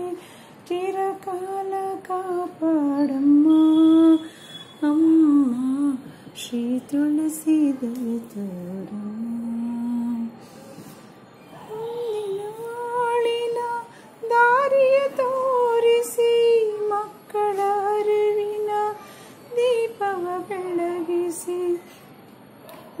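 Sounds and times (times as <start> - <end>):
woman singing devotional song: 0.0 - 11.0, 11.6 - 22.0.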